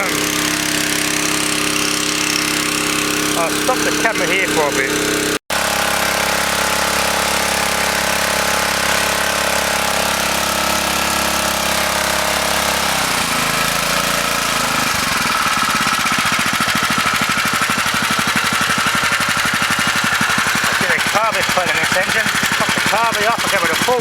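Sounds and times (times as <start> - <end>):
small petrol engine running: 0.0 - 24.0.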